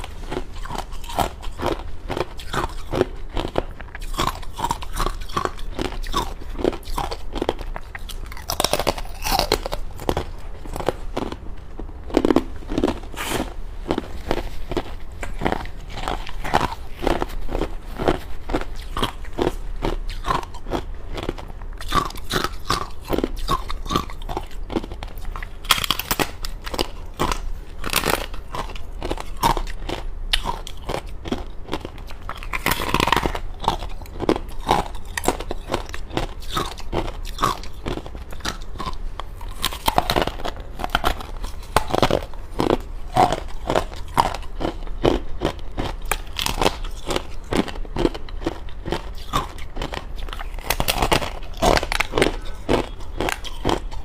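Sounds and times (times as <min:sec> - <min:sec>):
ice being bitten and chewed: 0:00.0 - 0:54.0.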